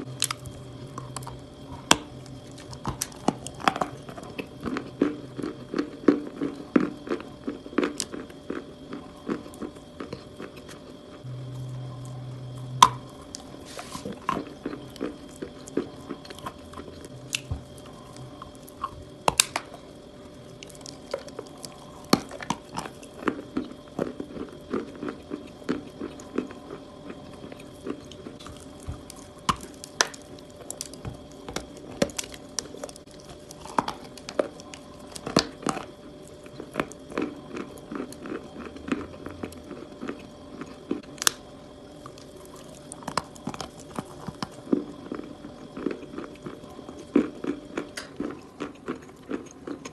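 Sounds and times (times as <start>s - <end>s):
crunchy chewing of chalk: 0.0s - 49.9s
faint steady whine: 0.0s - 49.9s.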